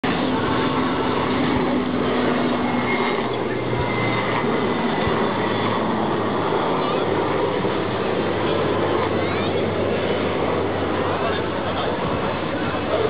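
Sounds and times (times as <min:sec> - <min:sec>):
helicopter turbine and rotor noise: 0:00.0 - 0:13.0.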